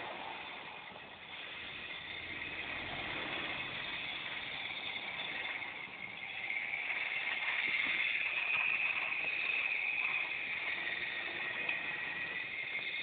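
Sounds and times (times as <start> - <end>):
model train wheels on rails: 0.0 - 13.0
small electric motor whirring: 0.0 - 13.0.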